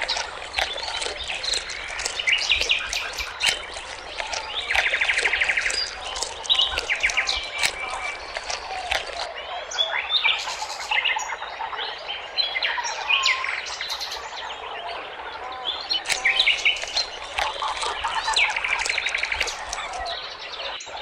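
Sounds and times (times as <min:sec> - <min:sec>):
songbirds chirping and singing: 0:00.0 - 0:21.0.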